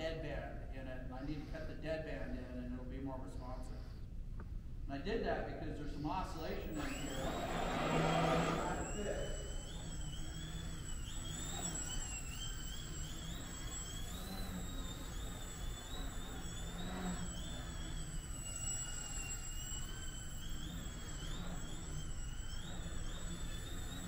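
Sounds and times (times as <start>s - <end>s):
model airplane motor whining: 0.9s - 4.2s, 5.2s - 24.0s.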